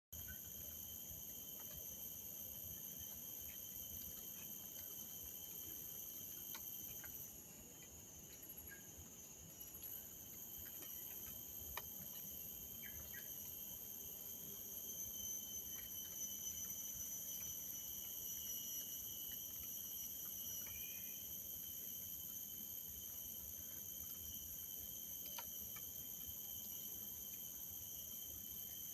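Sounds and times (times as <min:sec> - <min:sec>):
insect chorus shrilling: 0:00.2 - 0:28.9.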